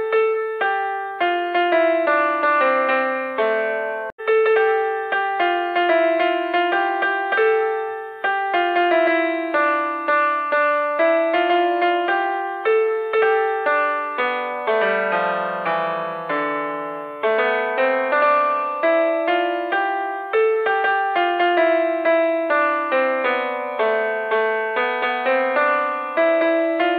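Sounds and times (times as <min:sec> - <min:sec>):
gentle piano melody: 0:00.0 - 0:26.9.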